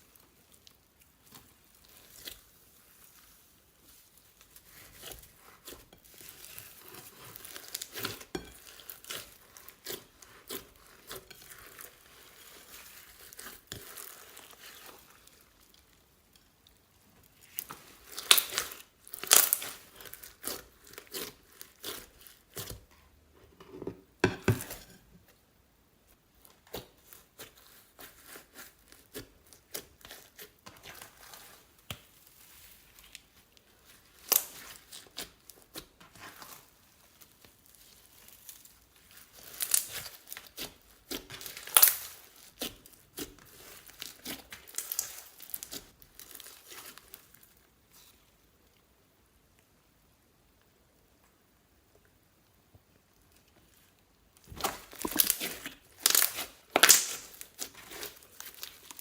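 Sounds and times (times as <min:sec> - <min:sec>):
slime crackling and popping: 0:00.0 - 0:23.0, 0:26.4 - 0:48.1, 0:53.2 - 0:59.0.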